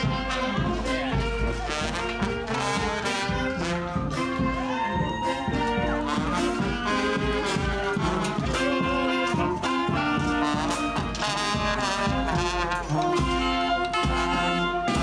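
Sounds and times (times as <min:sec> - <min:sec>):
brass band playing: 0:00.0 - 0:15.0
steady drum beat: 0:00.0 - 0:15.0.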